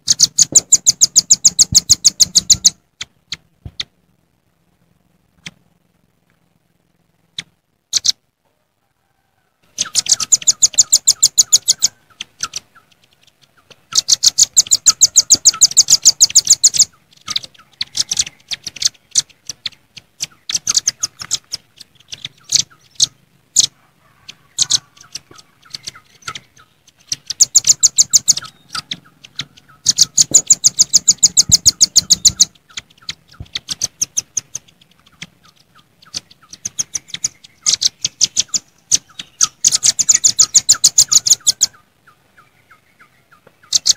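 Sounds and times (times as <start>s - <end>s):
birds chipping calls: 0.0s - 4.0s, 7.4s - 8.2s, 9.6s - 43.9s.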